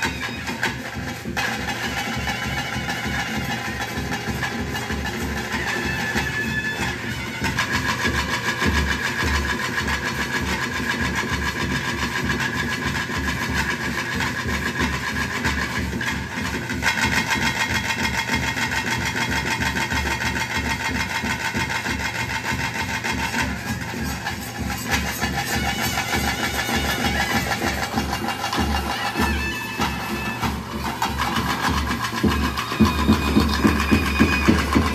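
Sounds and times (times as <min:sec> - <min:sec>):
drums beating steady rhythm: 0:00.0 - 0:34.9.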